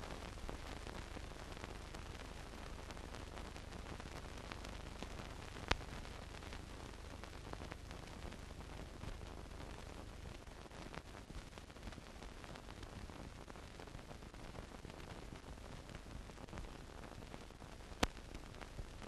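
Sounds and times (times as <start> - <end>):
film soundtrack hiss and crackle: 0.0 - 19.0.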